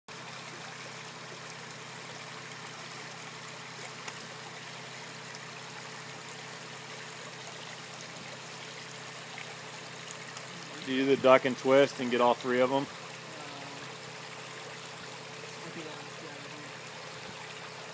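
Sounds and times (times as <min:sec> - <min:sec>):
creek flowing over gravel: 0:00.1 - 0:17.9.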